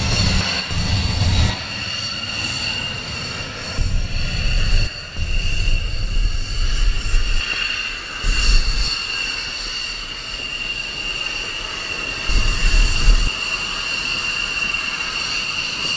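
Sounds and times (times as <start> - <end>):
jet engines whine and rumble: 0.0 - 15.9.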